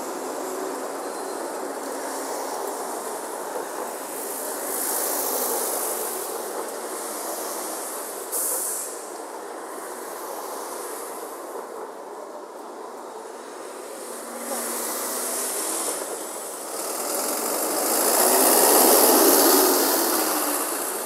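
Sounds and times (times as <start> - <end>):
traffic and street noise: 0.0 - 21.0.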